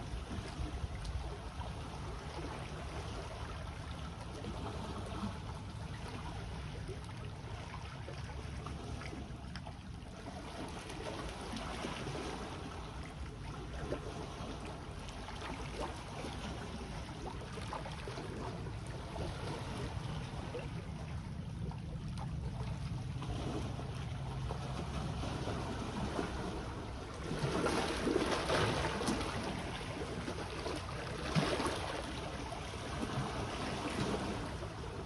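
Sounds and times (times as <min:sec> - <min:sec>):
small waves washing on shore: 0:00.0 - 0:35.0.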